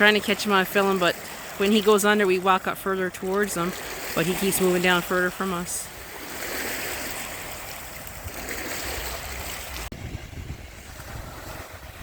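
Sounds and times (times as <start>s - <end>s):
low rumble of waves: 0.0s - 12.0s
surf hissing on beach: 0.0s - 12.0s.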